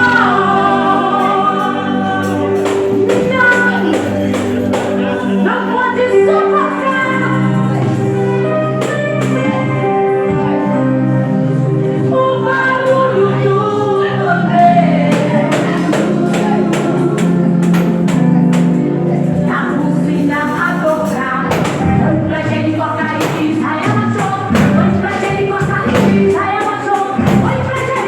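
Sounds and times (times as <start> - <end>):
percussion strikes: 0.0 - 9.8, 15.0 - 28.0
voices singing held notes: 0.0 - 28.0.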